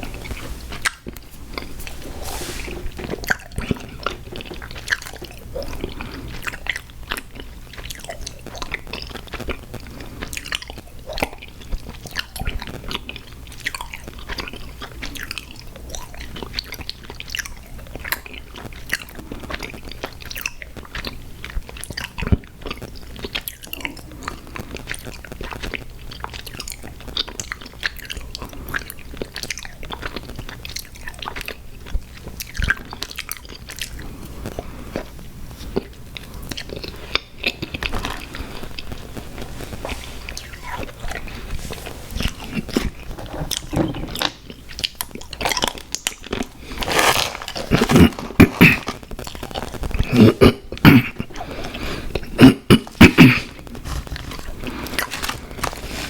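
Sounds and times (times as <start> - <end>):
wet chewing with crunches: 0.0 - 2.0, 2.6 - 56.0.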